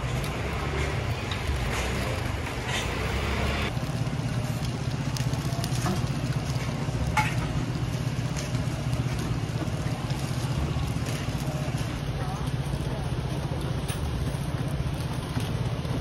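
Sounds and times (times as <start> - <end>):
batter sizzling on griddle: 0.0 - 16.0
steady low rumble: 0.0 - 16.0.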